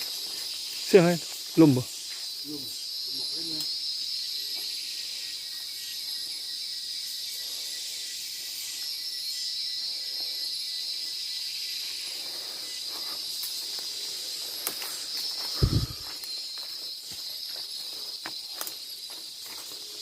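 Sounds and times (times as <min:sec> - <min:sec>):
insect chorus buzzing: 0:00.0 - 0:20.0.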